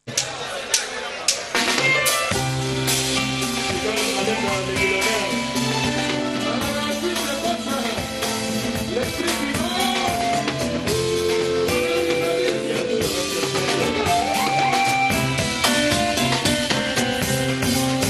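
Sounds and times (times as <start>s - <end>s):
drum kit: 0.0s - 18.0s
electric guitar: 1.6s - 18.0s.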